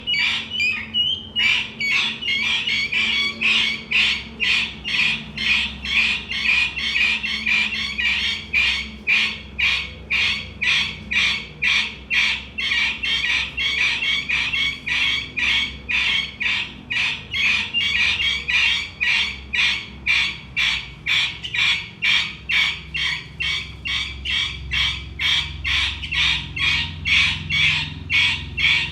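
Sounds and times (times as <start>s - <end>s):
guinea fowl calling: 0.0s - 28.9s.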